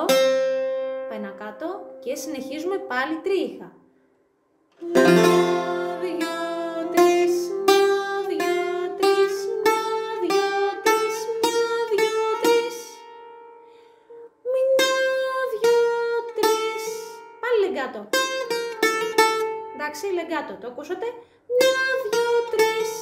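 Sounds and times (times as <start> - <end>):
bouzouki picked notes: 0.0 - 3.6, 4.8 - 20.5, 21.5 - 23.0.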